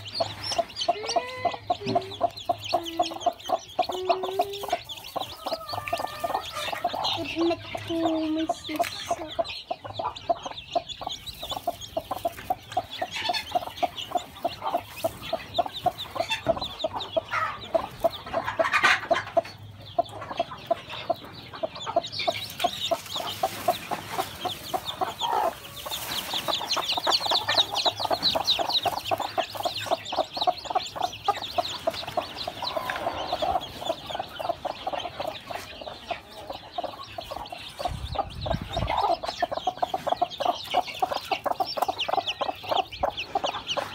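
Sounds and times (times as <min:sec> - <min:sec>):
chicks peeping: 0:00.0 - 0:43.9
hen clucking: 0:00.0 - 0:43.9.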